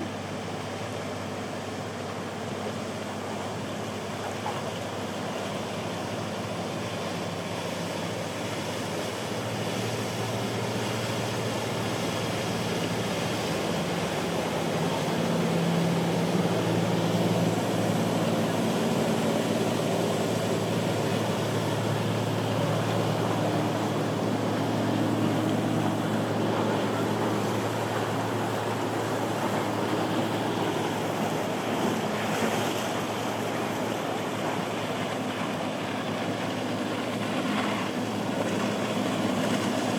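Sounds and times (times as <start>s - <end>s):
boat engines droning: 0.0s - 39.9s
waves: 0.0s - 39.9s.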